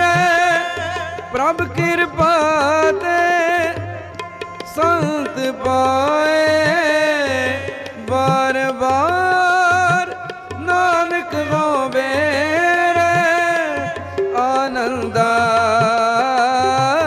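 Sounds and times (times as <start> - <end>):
tabla strokes: 0.0 - 17.0.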